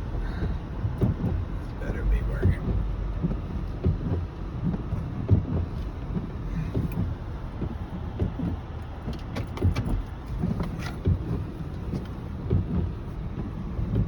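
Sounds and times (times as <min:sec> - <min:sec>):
car interior rumble: 0:00.0 - 0:14.0.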